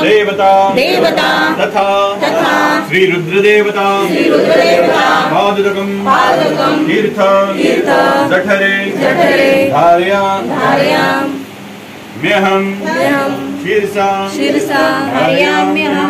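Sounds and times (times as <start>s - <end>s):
group chanting in unison: 0.0s - 11.4s, 12.2s - 16.0s.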